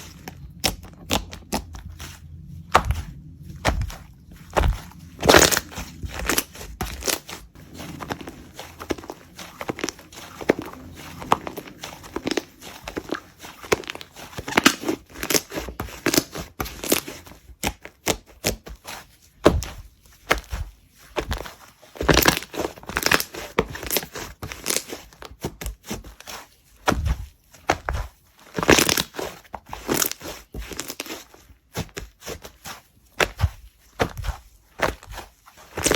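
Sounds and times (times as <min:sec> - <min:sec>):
slime squelching and popping: 0:00.0 - 0:26.2, 0:26.8 - 0:35.9.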